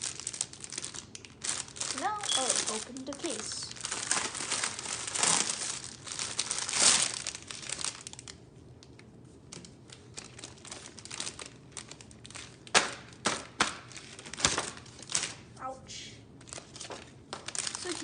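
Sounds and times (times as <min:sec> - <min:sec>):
plastic packaging crinkling and tearing: 0:00.0 - 0:15.5, 0:16.4 - 0:18.0.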